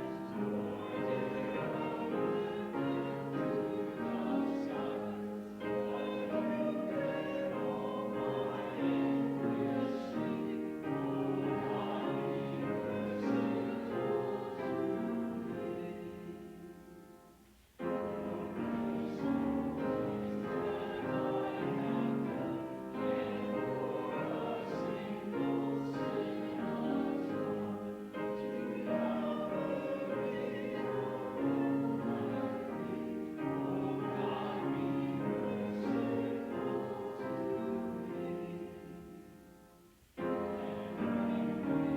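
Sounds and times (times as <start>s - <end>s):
congregation singing a hymn: 0.0s - 41.9s
keyboard accompaniment: 0.0s - 41.9s.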